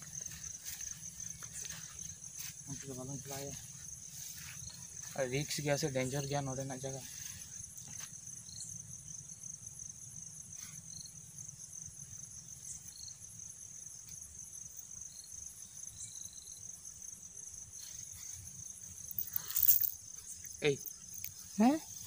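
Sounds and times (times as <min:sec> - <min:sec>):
short insect chirps: 0:00.0 - 0:09.6, 0:10.2 - 0:22.0
insects trilling: 0:00.0 - 0:22.0.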